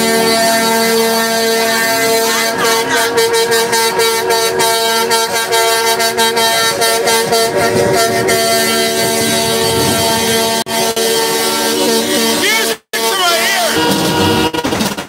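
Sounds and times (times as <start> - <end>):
truck air horns: 0.0 - 14.9.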